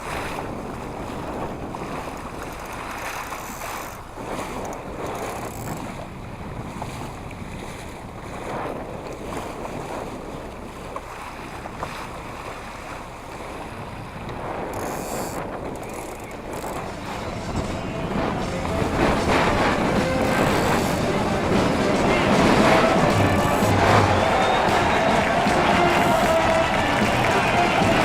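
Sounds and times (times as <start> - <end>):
water splashing and rushing: 0.0 - 28.0
wind buffeting microphone: 0.0 - 28.0.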